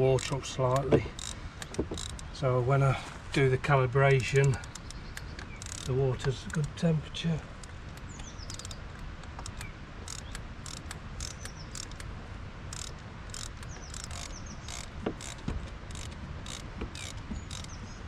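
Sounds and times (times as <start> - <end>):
hand ratchet clicking: 0.0 - 2.3, 4.1 - 6.9, 7.6 - 12.1, 12.7 - 17.8
birds chirping faintly: 0.0 - 18.0.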